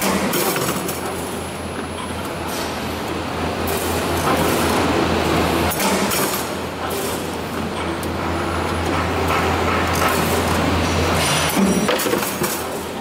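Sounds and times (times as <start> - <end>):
machine hum and whir: 0.0 - 13.0.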